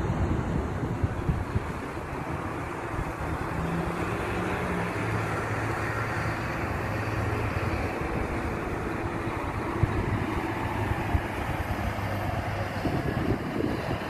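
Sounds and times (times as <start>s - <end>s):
low engine hum: 0.0s - 14.0s
road traffic rushing: 0.0s - 14.0s.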